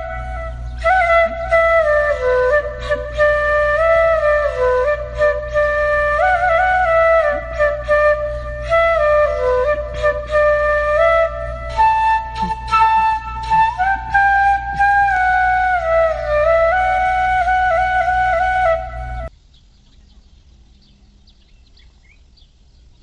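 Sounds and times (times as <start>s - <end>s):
flute playing slow melody: 0.0s - 19.3s.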